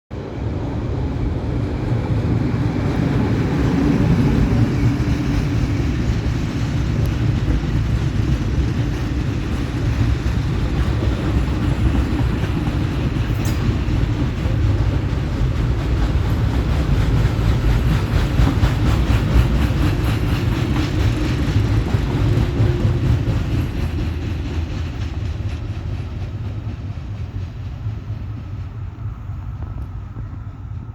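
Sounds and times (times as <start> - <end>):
train wheels rumbling on rails: 0.1 - 30.9
rail joints clickety-clack: 0.2 - 30.9.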